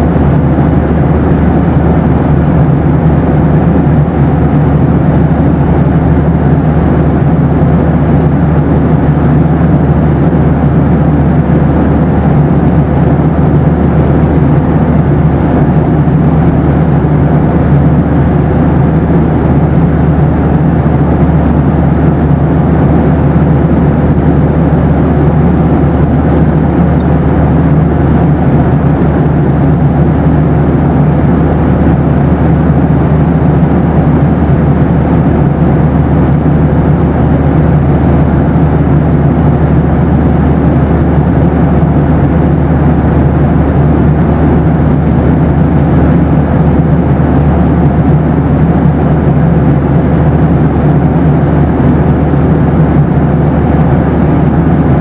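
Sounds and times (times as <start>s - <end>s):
airliner engines droning: 0.0s - 55.0s
faint steady hum: 0.0s - 55.0s.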